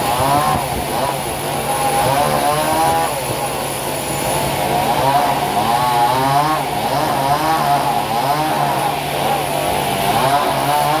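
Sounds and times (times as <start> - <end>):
saw cutting through a board: 0.0 - 11.0.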